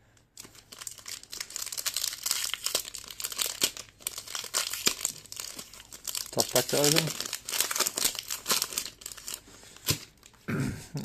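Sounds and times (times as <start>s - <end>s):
foil wrapper crinkling: 0.4s - 10.4s
foil pack tearing open: 0.6s - 10.3s.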